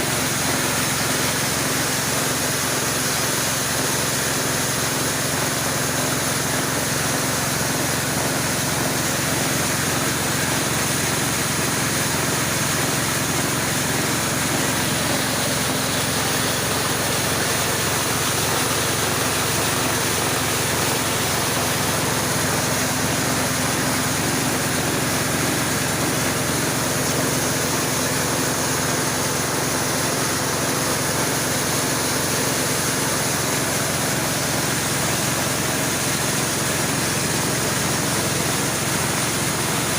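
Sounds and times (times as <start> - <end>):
grinding mill running: 0.0 - 39.9.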